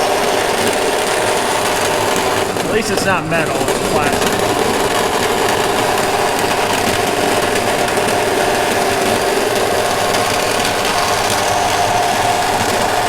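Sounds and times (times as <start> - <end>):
power saw cutting plastic: 0.0 - 13.0.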